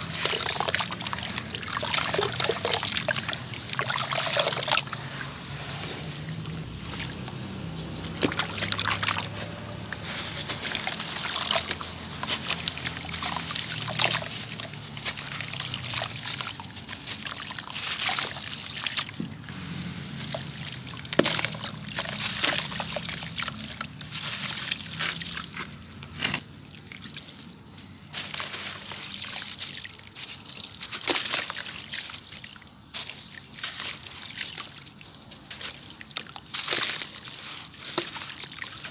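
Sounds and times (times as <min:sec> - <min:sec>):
gritty crackles of crumbling sand: 0:00.0 - 0:38.9
water sloshing and trickling: 0:00.0 - 0:38.9.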